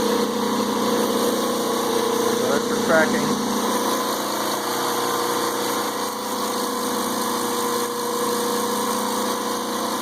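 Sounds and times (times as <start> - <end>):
belt grinder running: 0.0 - 10.0.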